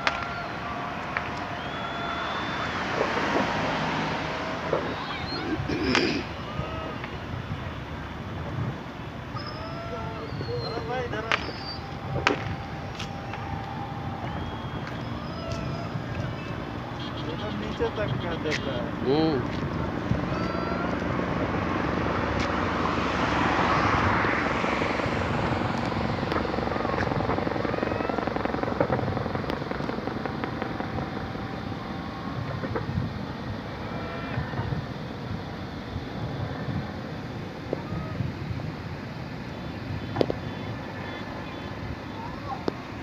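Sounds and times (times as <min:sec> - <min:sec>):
vehicle passing close: 0:00.0 - 0:09.3, 0:10.0 - 0:43.0
busy road traffic: 0:00.0 - 0:43.0.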